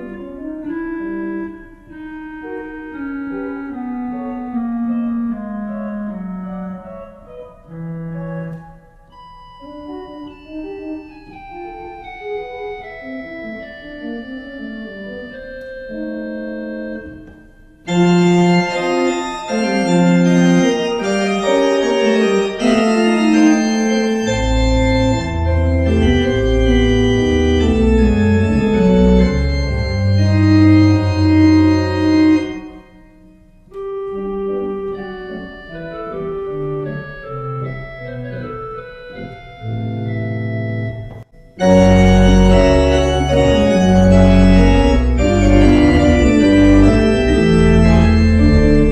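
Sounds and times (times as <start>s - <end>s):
deep organ pedal bass line: 0.0s - 32.8s, 33.7s - 48.9s
church organ playing chords: 0.0s - 48.9s.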